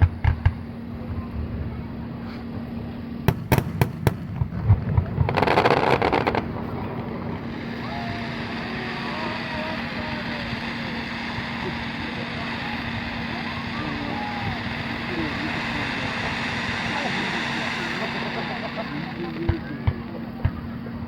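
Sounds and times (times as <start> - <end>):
crowd chattering: 0.0 - 21.0
fireworks bangs: 3.2 - 20.6
fireworks crackling: 3.2 - 20.6.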